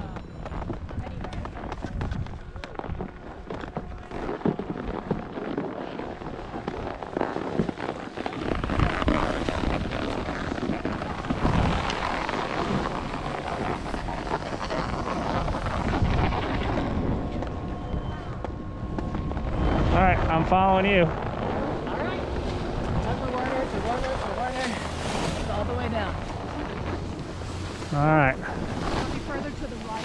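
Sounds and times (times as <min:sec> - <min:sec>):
wind rumbling on microphone: 0:00.0 - 0:30.0
skis scraping over snow: 0:00.6 - 0:30.0.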